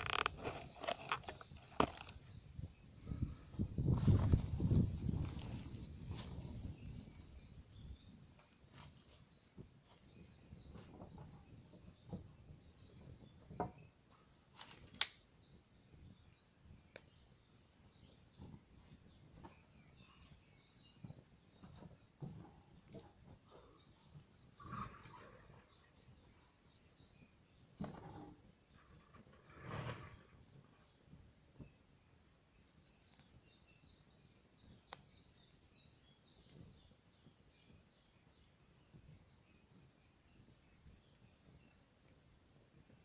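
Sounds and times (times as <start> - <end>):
bonfire crackling and popping: 0.0 - 24.6, 25.6 - 43.0
small birds chirping: 0.0 - 43.0.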